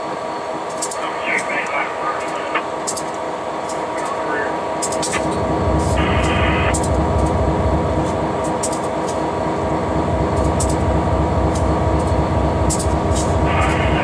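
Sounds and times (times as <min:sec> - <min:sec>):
diesel locomotive engine drone: 0:00.0 - 0:14.0
steady hum: 0:00.0 - 0:14.0.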